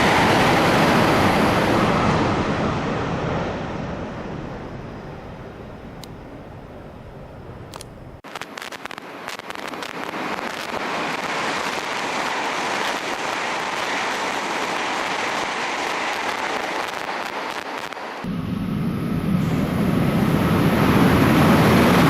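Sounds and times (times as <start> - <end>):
train rushing past: 0.0 - 6.6, 10.0 - 22.0.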